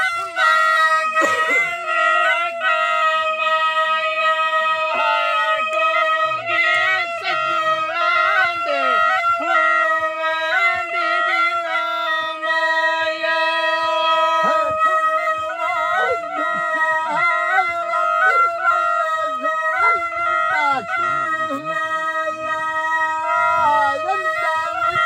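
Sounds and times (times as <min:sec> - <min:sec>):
flute drone: 0:00.0 - 0:25.0
flute folk melody: 0:00.0 - 0:25.0.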